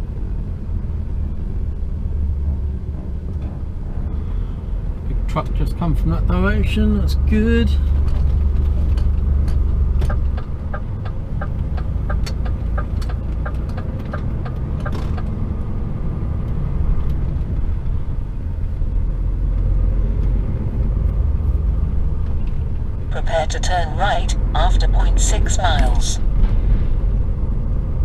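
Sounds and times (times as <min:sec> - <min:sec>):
diesel engine rumble in cab: 0:00.0 - 0:28.0.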